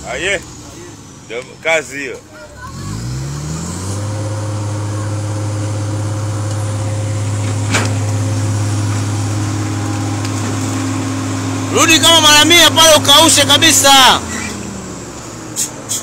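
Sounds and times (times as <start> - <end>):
truck diesel engine revving: 0.0 - 16.0.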